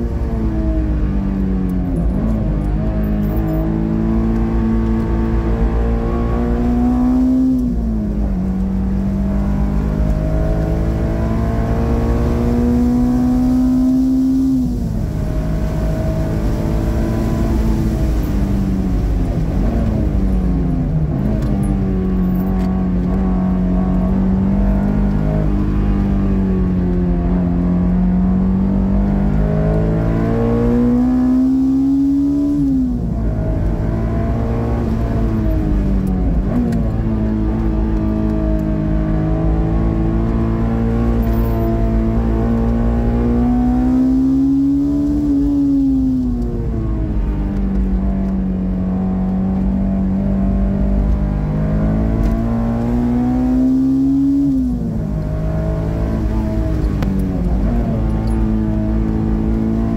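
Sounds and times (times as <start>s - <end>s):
car engine revving through gears: 0.0s - 59.9s.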